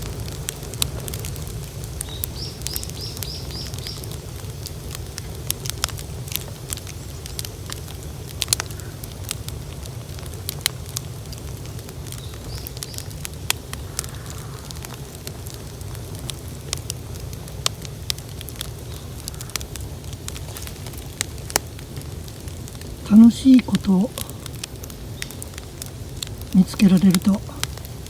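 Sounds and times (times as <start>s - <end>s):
bonfire crackling and popping: 0.0s - 28.0s
low fire rumble: 0.0s - 28.0s.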